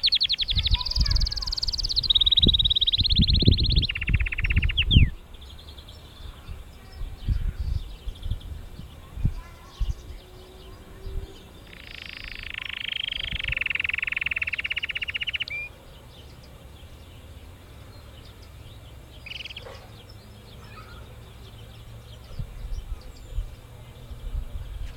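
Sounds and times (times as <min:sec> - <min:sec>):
canary singing: 0:00.0 - 0:24.1.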